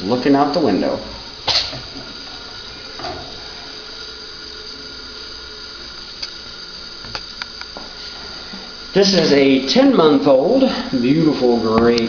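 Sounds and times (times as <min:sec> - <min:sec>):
faint whine: 0:00.0 - 0:12.0
room hum and hiss: 0:00.0 - 0:12.0.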